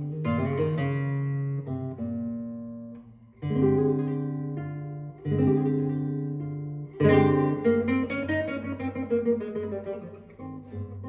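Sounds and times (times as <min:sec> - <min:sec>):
classical guitar finger-played: 0:00.0 - 0:11.0.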